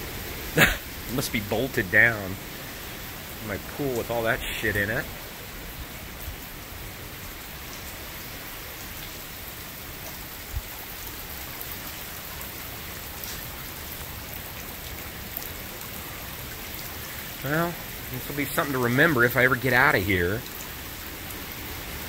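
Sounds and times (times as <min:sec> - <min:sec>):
heavy rain on pool and foliage: 0:00.0 - 0:22.0.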